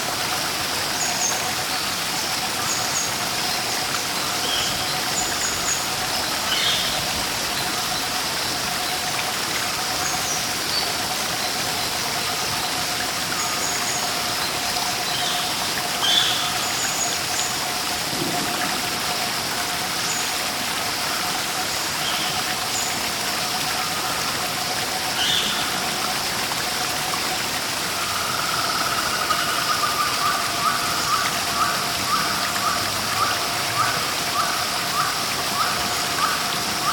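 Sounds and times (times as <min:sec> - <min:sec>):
water rushing: 0:00.0 - 0:36.9.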